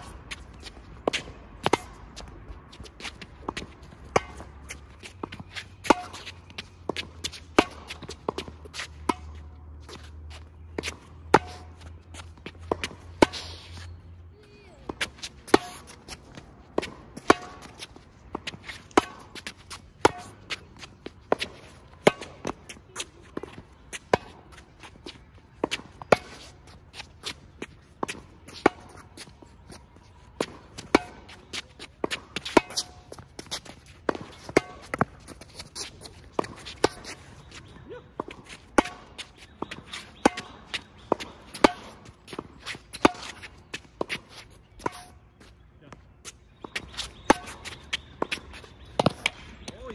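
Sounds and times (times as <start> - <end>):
tennis ball hitting racket: 0.0 - 14.0, 14.8 - 45.2, 46.2 - 49.9.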